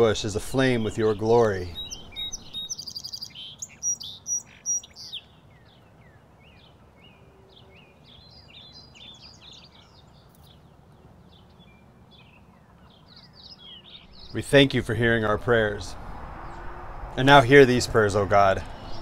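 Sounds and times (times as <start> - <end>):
songbirds chirping and singing: 0.0 - 16.9, 17.5 - 19.0.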